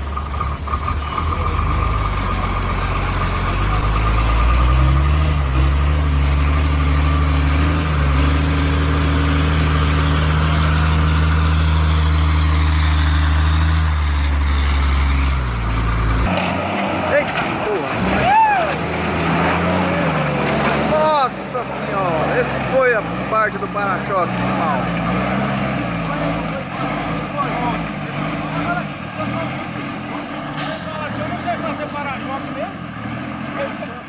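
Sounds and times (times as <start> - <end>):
diesel truck engine revving: 0.0 - 34.0.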